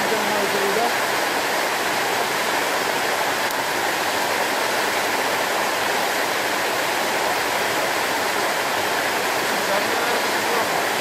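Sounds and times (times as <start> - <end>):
waterfall rushing and splashing: 0.0 - 11.0.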